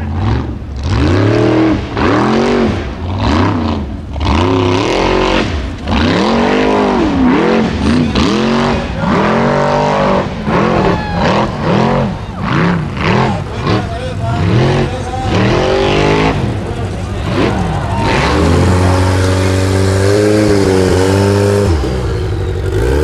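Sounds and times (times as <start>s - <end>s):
buggy engine revving hard: 0.0s - 23.0s.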